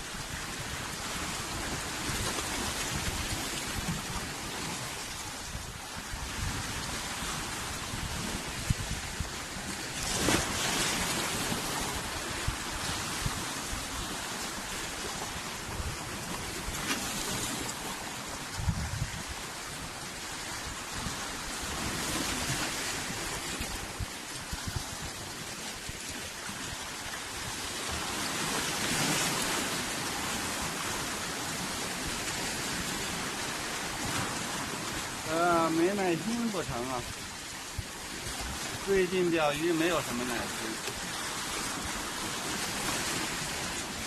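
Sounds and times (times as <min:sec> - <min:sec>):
sea water splashing and rushing: 0:00.0 - 0:44.0.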